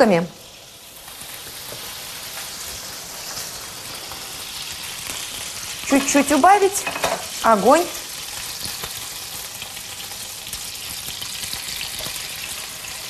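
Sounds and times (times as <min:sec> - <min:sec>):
oil sizzling in frying pan: 0:00.0 - 0:13.0.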